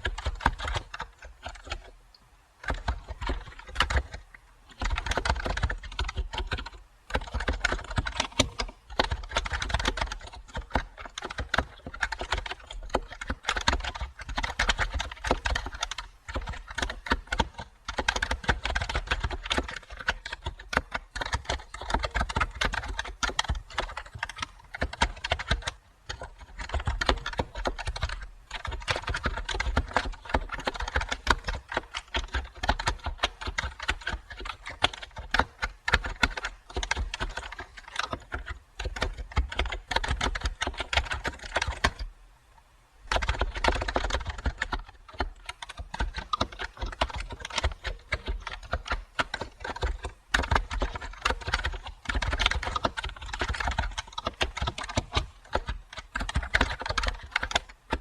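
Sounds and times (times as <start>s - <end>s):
fast typing on keyboard: 0.0s - 2.0s, 2.6s - 42.1s, 43.0s - 58.0s.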